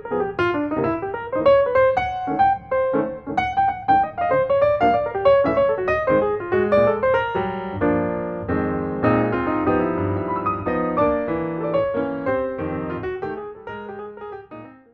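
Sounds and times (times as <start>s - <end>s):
piano music: 0.0s - 14.9s.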